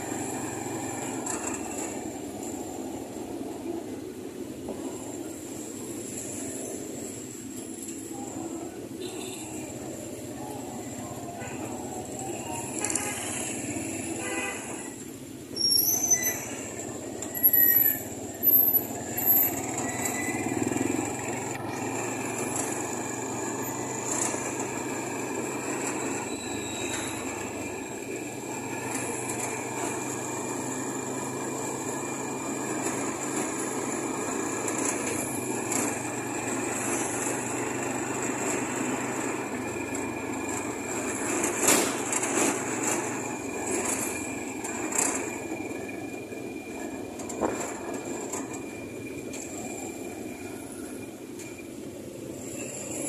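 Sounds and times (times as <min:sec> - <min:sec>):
motorcycles passing: 0:00.0 - 0:04.1, 0:04.7 - 0:15.0, 0:16.5 - 0:53.0
vehicle engine hum and road noise: 0:00.0 - 0:53.0.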